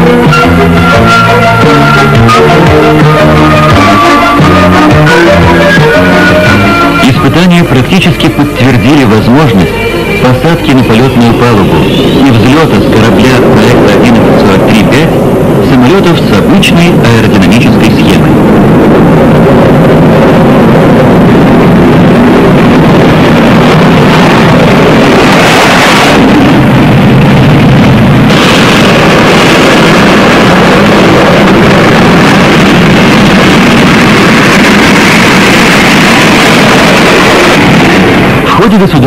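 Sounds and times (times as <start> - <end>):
jet engines rumbling: 0.0 - 39.0
hissing rush of approaching jet: 5.5 - 38.5.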